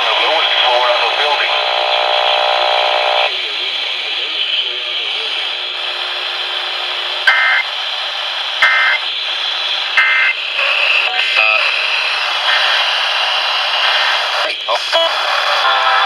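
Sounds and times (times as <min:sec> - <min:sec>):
radio static: 0:00.0 - 0:16.0.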